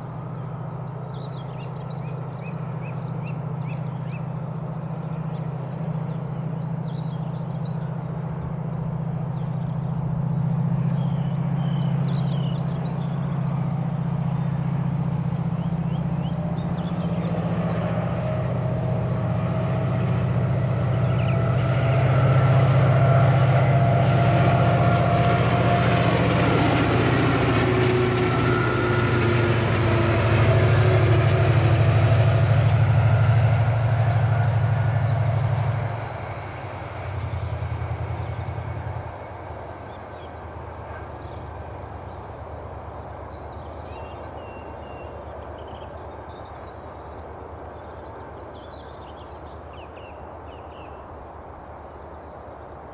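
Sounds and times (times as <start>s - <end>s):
diesel locomotive engine drone: 0.0s - 52.9s.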